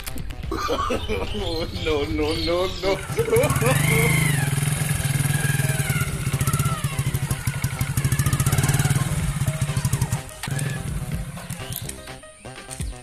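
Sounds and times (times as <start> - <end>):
motorcycle engine running: 1.6 - 12.2.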